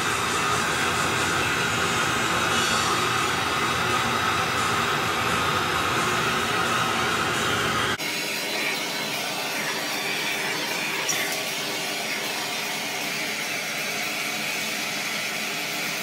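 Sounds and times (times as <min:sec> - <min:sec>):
soldering torch hissing: 0:00.0 - 0:16.0.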